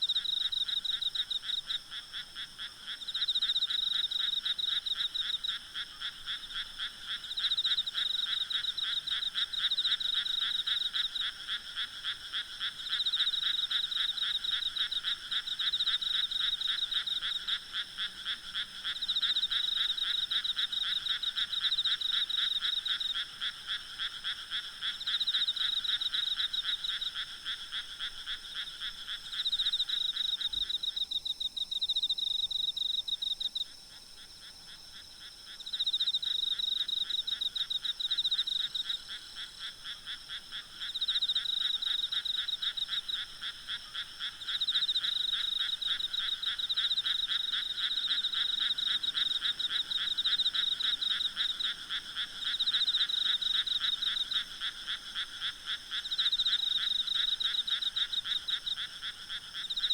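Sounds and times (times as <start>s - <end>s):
frogs calling in trills: 0.0s - 59.9s.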